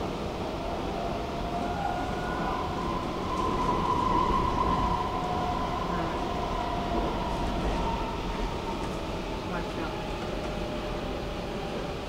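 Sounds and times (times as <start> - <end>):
metro train rumbling in tunnel: 0.0 - 12.0.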